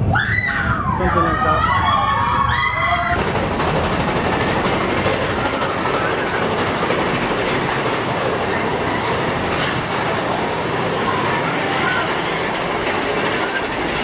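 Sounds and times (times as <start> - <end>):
roller coaster cars rolling: 0.0 - 14.0.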